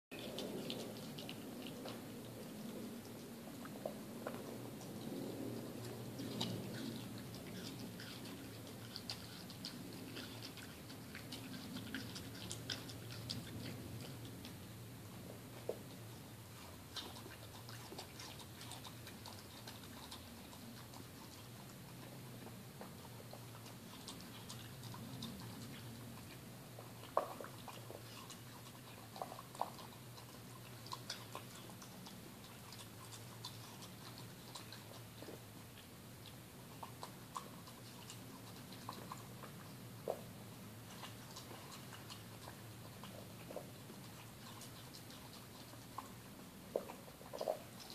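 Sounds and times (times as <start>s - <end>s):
dog chewing: 0.1s - 47.9s
faint steady hum: 0.1s - 47.9s.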